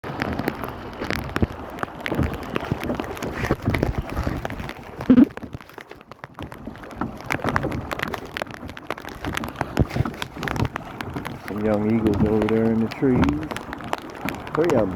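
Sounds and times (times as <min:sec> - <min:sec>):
rain falling on kayak: 0:00.0 - 0:14.9.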